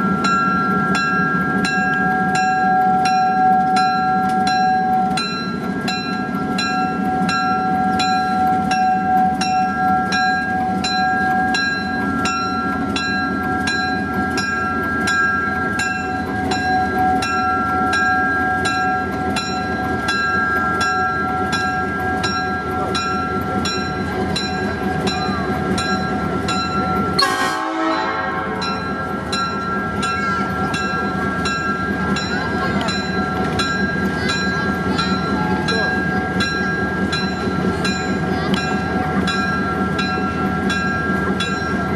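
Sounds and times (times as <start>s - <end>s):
diesel engine low rumble: 0.0s - 41.9s
locomotive bell ringing: 0.0s - 41.9s.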